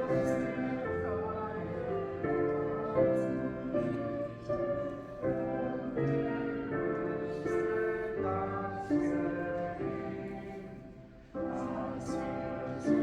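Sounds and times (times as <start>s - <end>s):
church choir singing a hymn: 0.0s - 13.0s.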